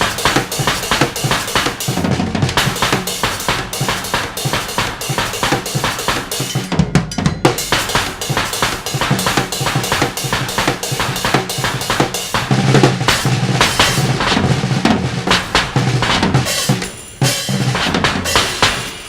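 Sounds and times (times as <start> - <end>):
bass drum thuds: 0.0 - 18.9
rapid strikes on drums and metal: 0.0 - 19.0.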